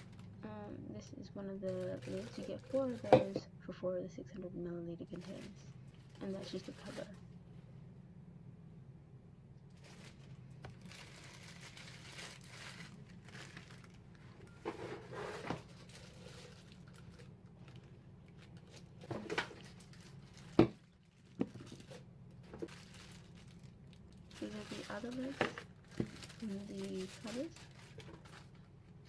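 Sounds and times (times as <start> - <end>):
plastic packaging crinkling: 0.0 - 0.5, 1.5 - 3.4, 5.0 - 7.2, 9.7 - 29.0
steady low hum: 0.0 - 29.0.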